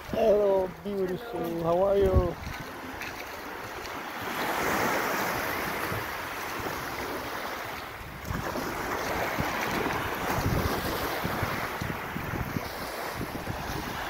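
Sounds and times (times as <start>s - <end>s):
water washing onto sand: 0.0s - 14.0s
wind rumbling on microphone: 0.0s - 14.0s.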